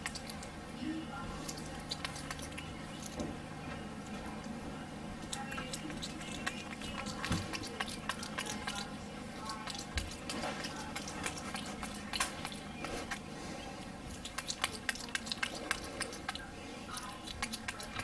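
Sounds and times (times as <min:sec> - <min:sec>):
wet lip-smacking clicks: 0:00.0 - 0:00.6, 0:01.4 - 0:03.3, 0:05.2 - 0:18.0
monkey chewing: 0:00.0 - 0:18.0.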